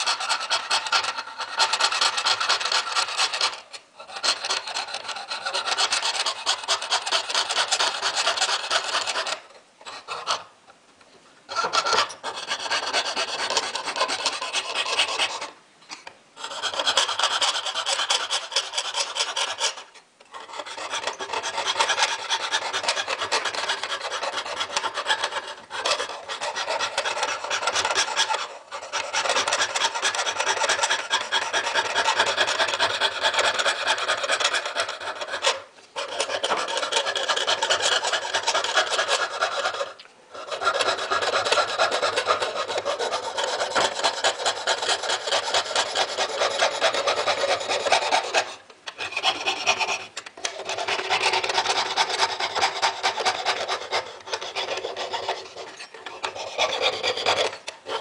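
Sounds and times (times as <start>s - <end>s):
saw rasping through metal: 0.0s - 10.4s, 11.5s - 15.5s, 16.4s - 58.0s.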